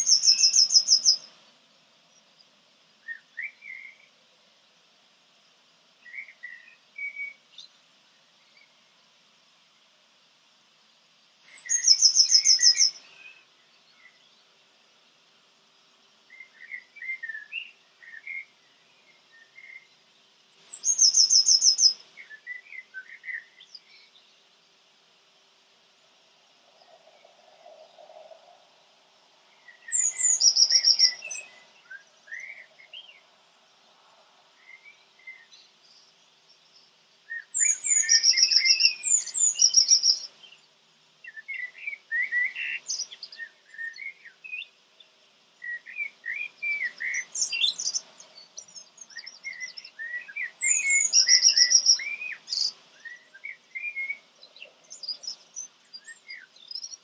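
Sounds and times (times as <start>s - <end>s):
songbird chirps and trills: 0.0s - 57.0s.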